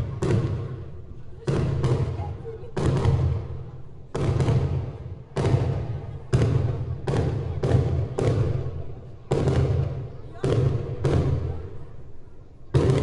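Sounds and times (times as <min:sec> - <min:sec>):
fireworks bangs: 0:00.0 - 0:11.9, 0:12.7 - 0:13.0.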